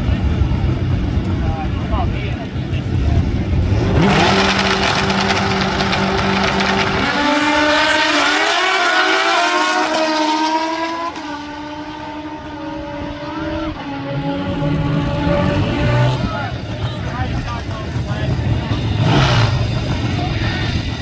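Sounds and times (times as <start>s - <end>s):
motorcycles revving and accelerating: 0.0s - 21.0s.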